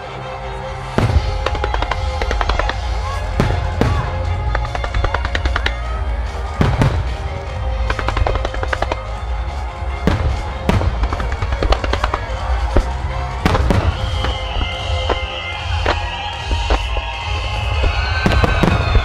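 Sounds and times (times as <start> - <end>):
music with held notes: 0.0 - 19.0
fireworks bursting: 0.8 - 19.0.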